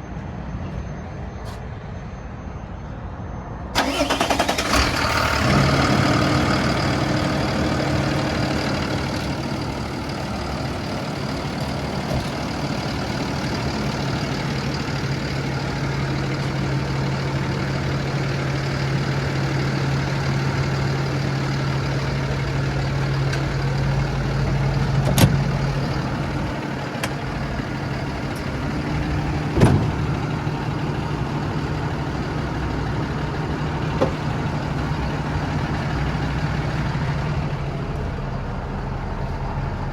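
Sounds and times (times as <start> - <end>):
diesel truck engine idling: 3.8 - 39.9.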